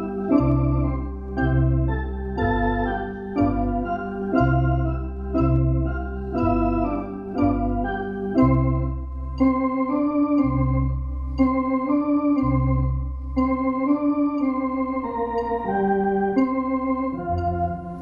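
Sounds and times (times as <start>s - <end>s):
deep organ pedal bass notes: 0.0s - 18.0s
organ chords: 0.0s - 18.0s.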